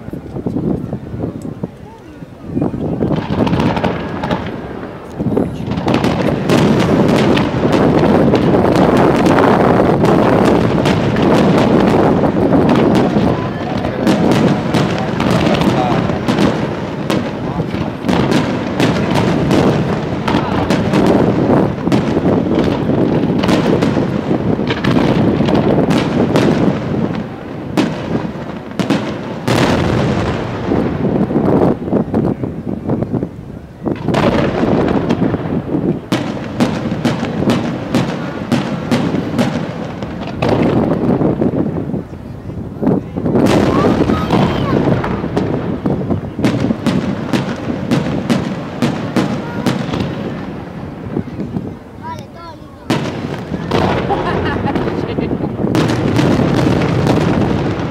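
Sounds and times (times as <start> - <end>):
firework shells bursting: 2.7 - 32.3, 33.9 - 42.2, 43.2 - 57.9.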